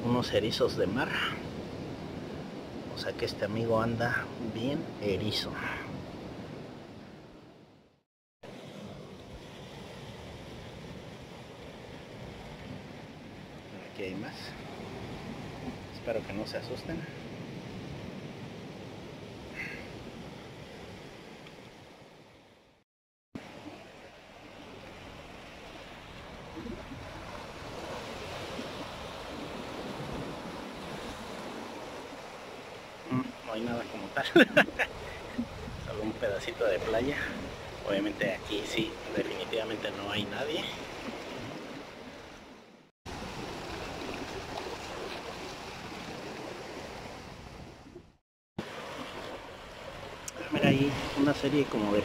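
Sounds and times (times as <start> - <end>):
sea surf on rocks: 0.0 - 6.9, 8.5 - 22.6, 23.4 - 48.0, 48.6 - 52.0.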